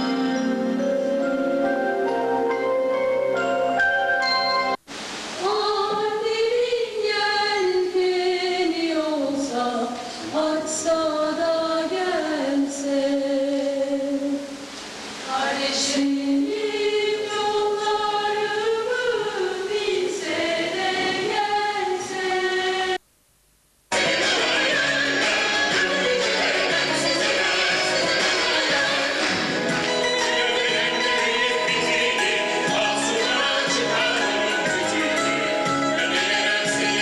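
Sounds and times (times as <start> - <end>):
choir singing slow melody: 5.4 - 23.0, 23.9 - 37.0.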